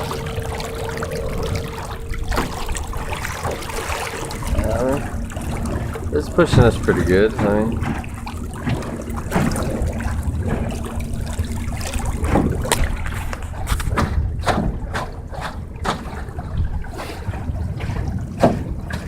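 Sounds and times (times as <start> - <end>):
thin steady hum: 0.0 - 19.0
water splashing against boat hull: 0.0 - 19.0
wind rumble on microphone: 0.0 - 19.0.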